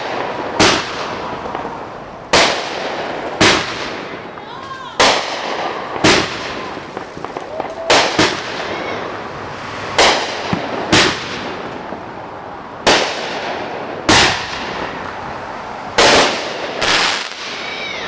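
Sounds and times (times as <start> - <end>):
fireworks crackling: 0.0 - 18.0
loud fireworks bangs: 0.0 - 18.0.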